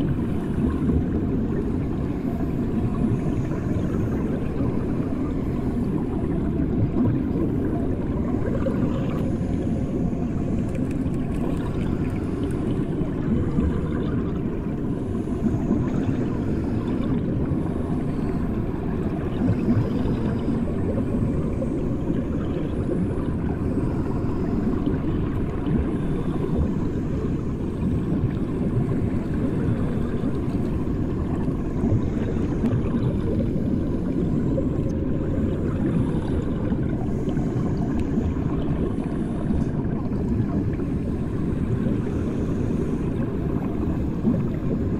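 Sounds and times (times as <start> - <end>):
muffled underwater rumble: 0.0 - 44.9.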